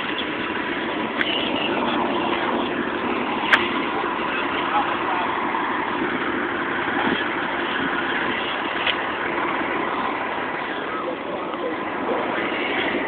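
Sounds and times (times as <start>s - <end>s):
fire truck engines idling: 0.0s - 13.0s.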